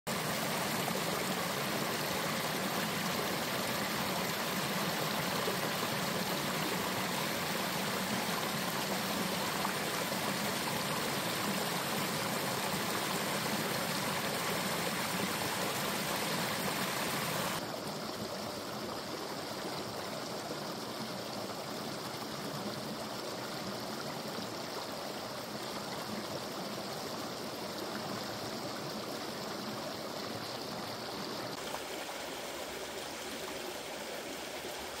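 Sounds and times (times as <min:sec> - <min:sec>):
stream splashing over rocks: 0:00.1 - 0:22.4, 0:28.0 - 0:35.0.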